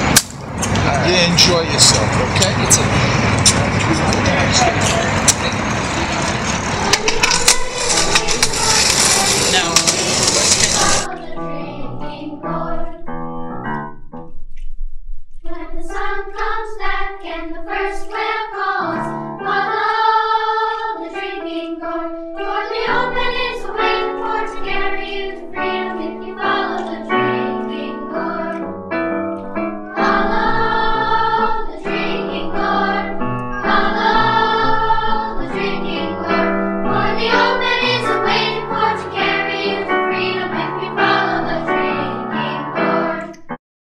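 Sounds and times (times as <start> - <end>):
voices singing together: 4.4 - 13.2, 15.5 - 28.7, 29.9 - 43.4.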